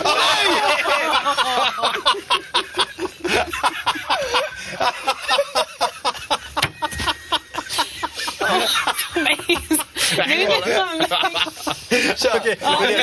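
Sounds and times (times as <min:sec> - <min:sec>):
men laughing hard: 0:00.0 - 0:13.0.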